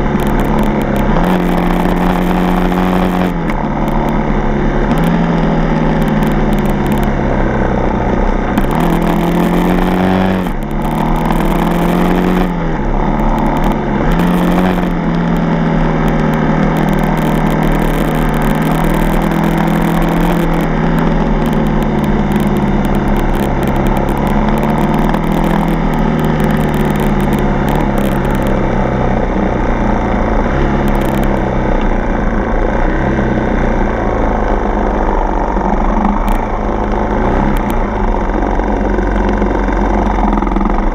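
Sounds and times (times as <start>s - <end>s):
dirt bike engine revving: 0.0s - 40.8s.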